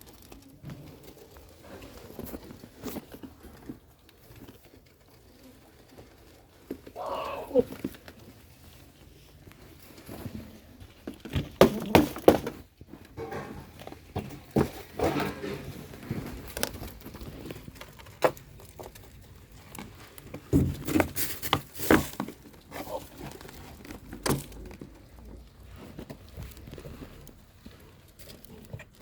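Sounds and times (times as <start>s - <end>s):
goats crunching corn: 0.0s - 29.0s
rustling and crinkling: 0.0s - 29.0s.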